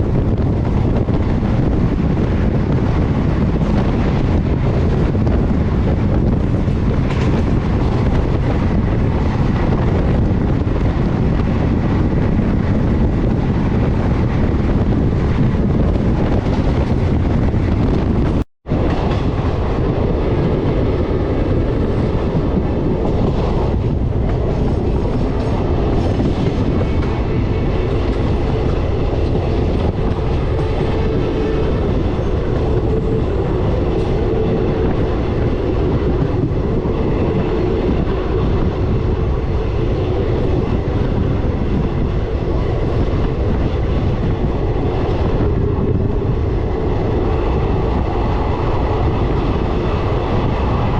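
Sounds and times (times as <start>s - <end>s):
train wheels clacking on rails: 0.0s - 50.9s.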